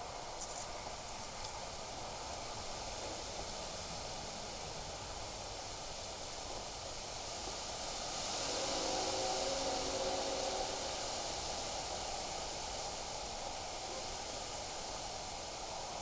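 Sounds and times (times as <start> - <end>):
wind hiss: 0.0 - 16.0.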